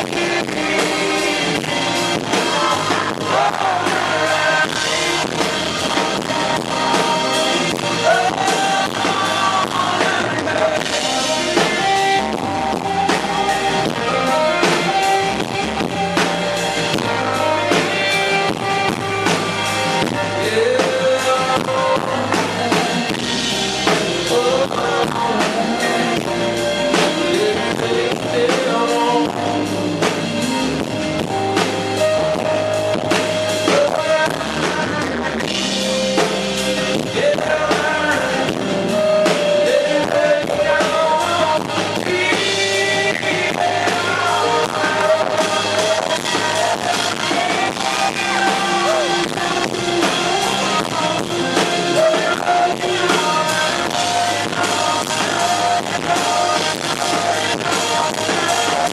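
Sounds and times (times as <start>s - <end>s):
country-rock band playing: 0.0s - 58.9s.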